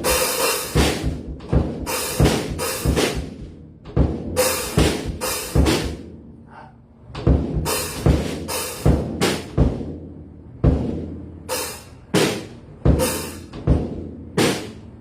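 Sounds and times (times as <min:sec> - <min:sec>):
deep drum strikes: 0:00.0 - 0:06.2, 0:07.2 - 0:15.0.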